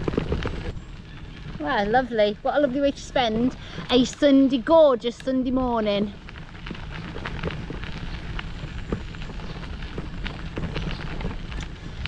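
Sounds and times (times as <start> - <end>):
bike rattling: 0.0 - 12.0
tyres crackling over grit: 0.0 - 12.0
wind rumble on microphone: 0.0 - 12.0.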